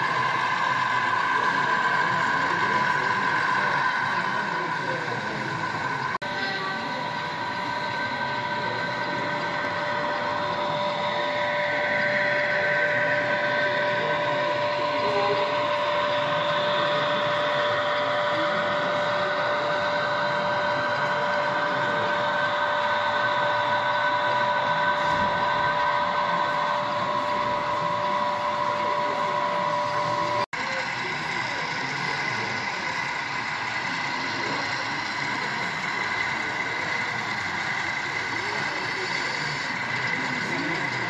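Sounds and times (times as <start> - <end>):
model trains whining hum: 0.0 - 41.0.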